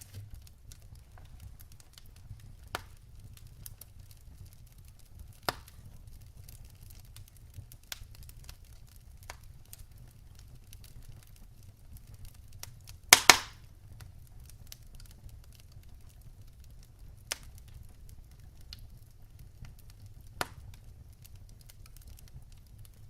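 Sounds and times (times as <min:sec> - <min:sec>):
fire popping: 0:00.0 - 0:23.0
low rumble of flames: 0:00.0 - 0:23.0
wood fire crackling: 0:00.0 - 0:23.0.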